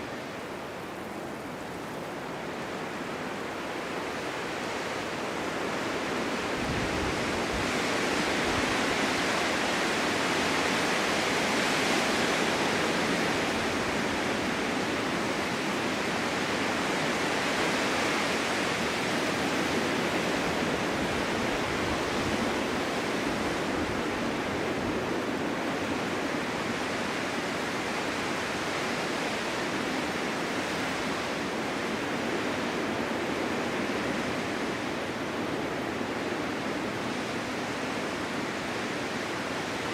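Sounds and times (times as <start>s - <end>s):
strong wind blowing: 4.2s - 39.9s.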